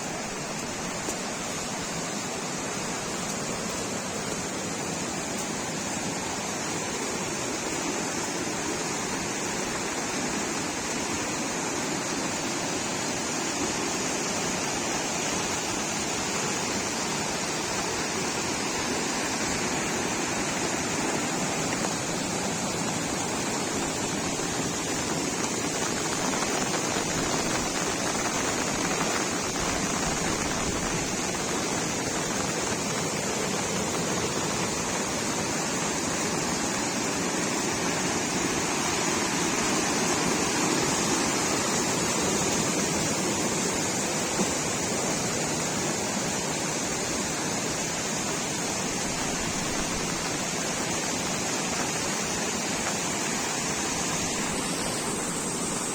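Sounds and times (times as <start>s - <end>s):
fast-flowing river rushing: 0.0s - 55.9s.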